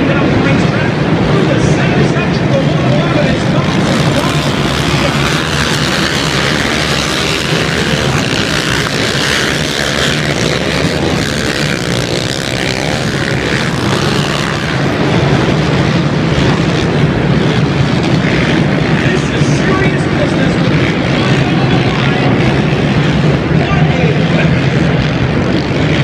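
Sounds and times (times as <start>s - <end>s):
racing atv engines revving: 0.0s - 26.0s.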